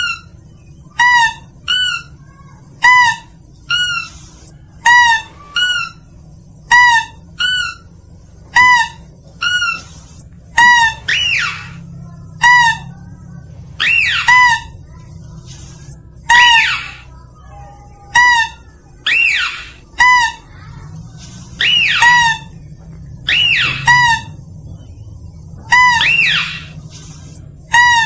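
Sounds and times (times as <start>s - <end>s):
shrill squeaky lure call: 0.0s - 13.0s, 13.8s - 14.8s, 16.2s - 20.6s, 21.5s - 22.6s, 23.2s - 24.4s, 25.6s - 28.0s.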